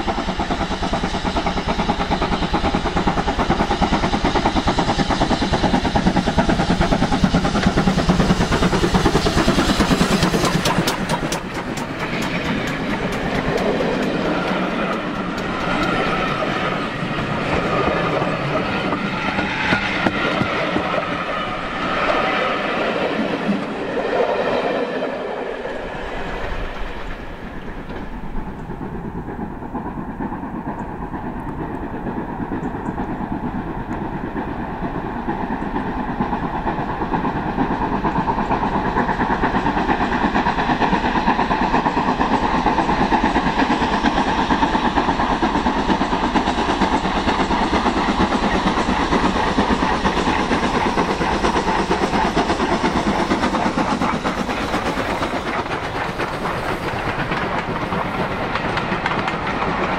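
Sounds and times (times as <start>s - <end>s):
train approaching: 0.0s - 59.9s.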